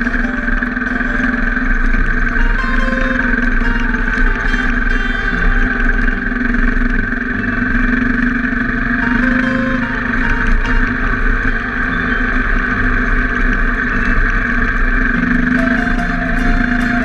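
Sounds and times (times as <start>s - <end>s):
motorcycle engine under load: 0.0s - 17.0s
tyres on gravel: 0.0s - 17.0s.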